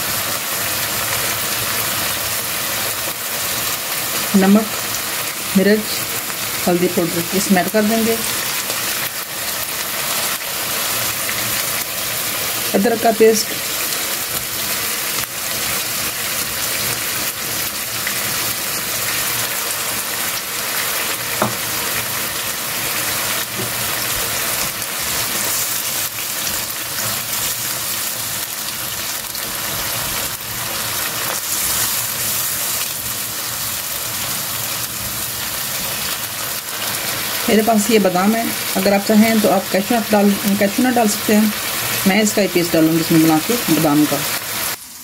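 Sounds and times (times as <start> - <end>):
spices sizzling in hot oil: 0.0 - 45.0.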